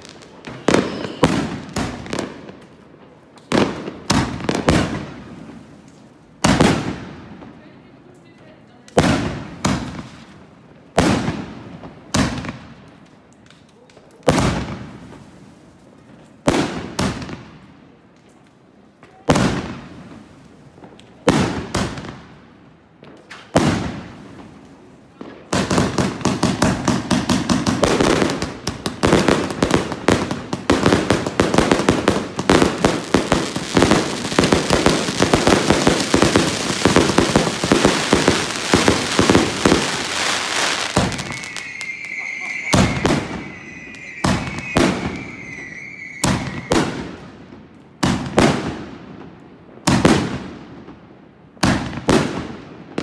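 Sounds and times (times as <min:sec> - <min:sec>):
fireworks cake bursts and crackles: 0:00.0 - 0:53.0.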